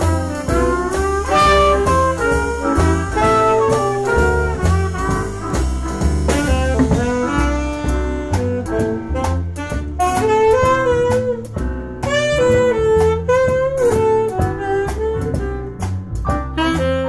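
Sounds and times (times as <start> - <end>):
saxophone playing melody: 0.0 - 15.8, 16.4 - 17.0
double bass walking line: 0.0 - 17.0.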